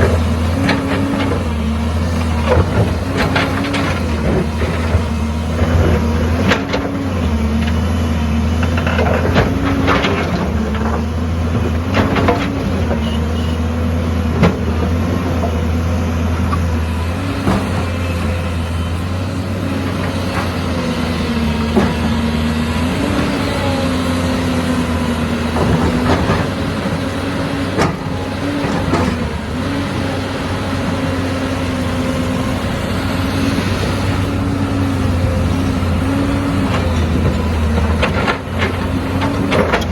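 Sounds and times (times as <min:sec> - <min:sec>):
construction machine engine running: 0:00.0 - 0:39.9.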